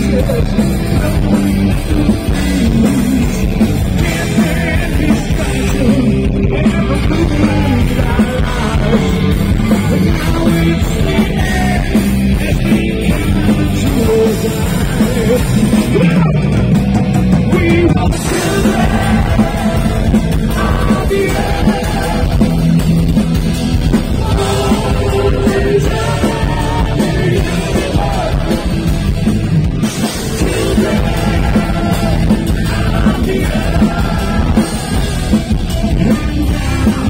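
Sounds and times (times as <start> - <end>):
fans singing along: 0.0 - 16.4, 17.3 - 37.0
heavy metal band playing: 0.0 - 37.0
man singing lead: 0.0 - 37.0.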